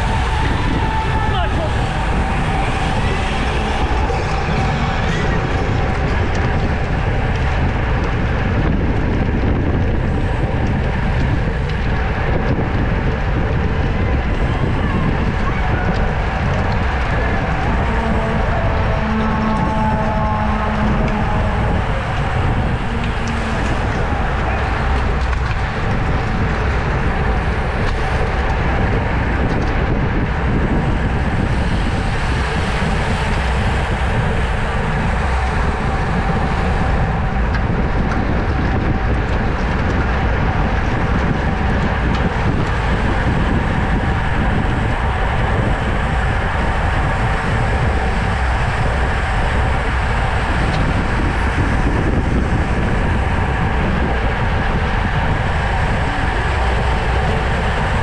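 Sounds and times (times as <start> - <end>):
low rumble: 0.0 - 58.0
wind rushing over microphone: 0.0 - 58.0.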